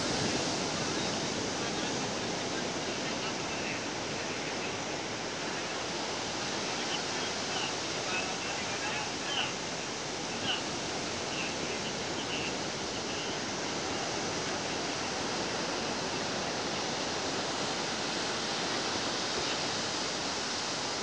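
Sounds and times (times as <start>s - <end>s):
steady outdoor noise: 0.0s - 21.0s.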